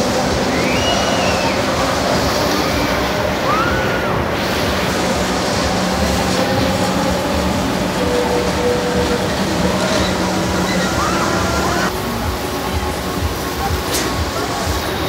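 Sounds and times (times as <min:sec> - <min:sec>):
faint mechanical hum: 0:00.0 - 0:15.0
white water rushing: 0:00.0 - 0:15.0.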